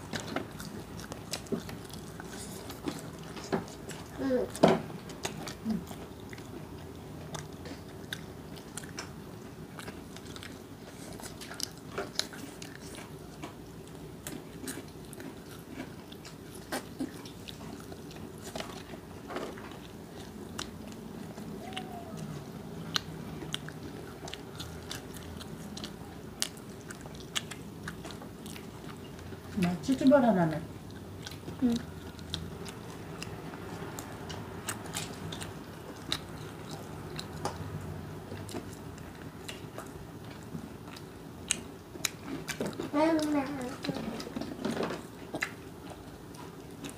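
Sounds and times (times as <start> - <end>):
low background hum: 0.0 - 46.9
people chewing crispy food: 0.0 - 46.9.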